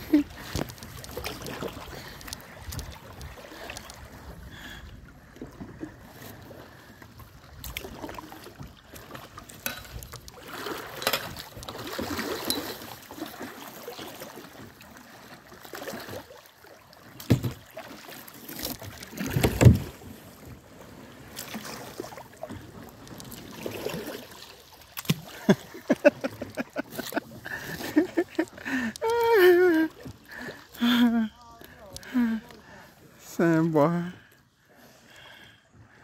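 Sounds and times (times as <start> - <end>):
paddle splashing in water: 0.0 - 34.0.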